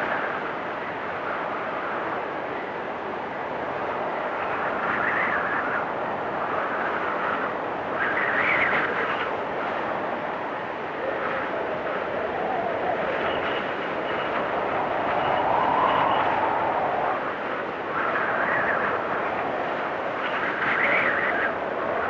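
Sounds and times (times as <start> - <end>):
blizzard wind blowing: 0.0 - 22.0.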